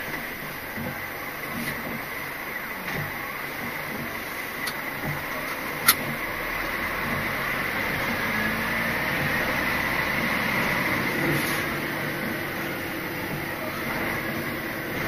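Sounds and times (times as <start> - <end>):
lorry engine running: 0.0 - 15.0.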